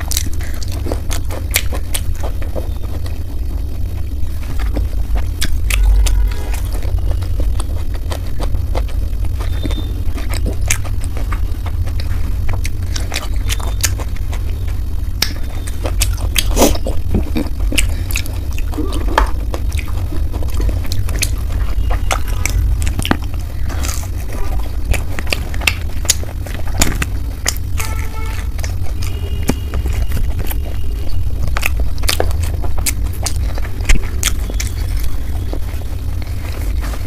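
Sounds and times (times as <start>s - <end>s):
low hum: 0.0s - 37.0s
person chewing food: 0.0s - 37.0s.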